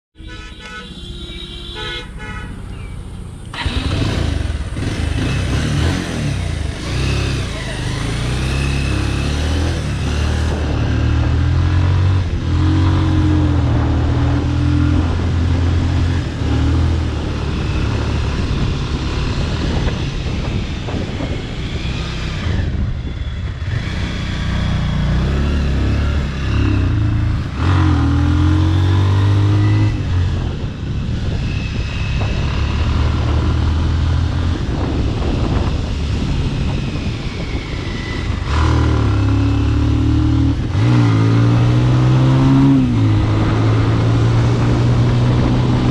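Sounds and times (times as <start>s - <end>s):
wind and road noise: 0.2s - 45.9s
motorcycle engine revving: 3.5s - 45.9s.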